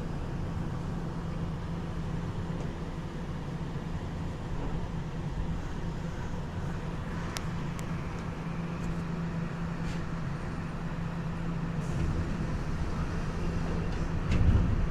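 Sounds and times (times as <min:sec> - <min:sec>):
train running rumble: 0:00.0 - 0:14.9.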